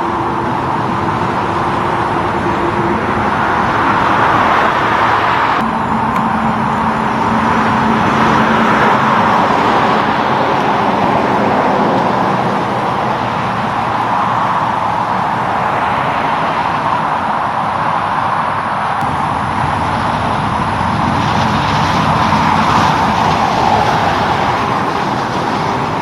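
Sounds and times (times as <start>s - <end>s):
highway traffic: 0.0s - 26.0s
low engine hum: 0.0s - 26.0s.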